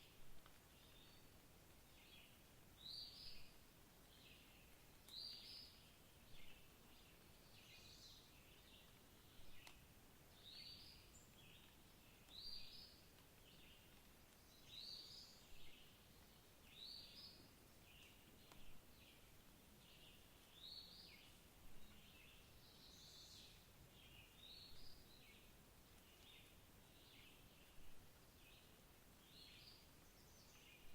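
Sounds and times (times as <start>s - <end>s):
faint steady hiss: 0.0s - 30.9s
songbirds chirping: 0.0s - 30.9s.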